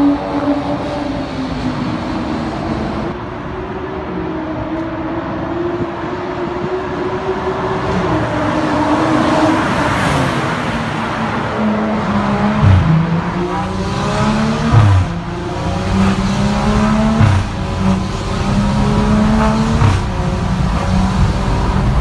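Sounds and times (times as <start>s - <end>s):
car engine and exhaust accelerating: 0.0s - 22.0s.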